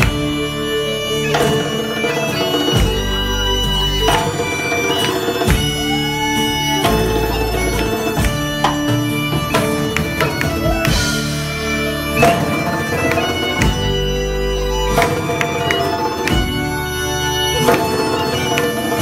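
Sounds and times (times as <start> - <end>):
bagpipe melody: 0.0 - 19.0
live folk band playing: 0.0 - 19.0.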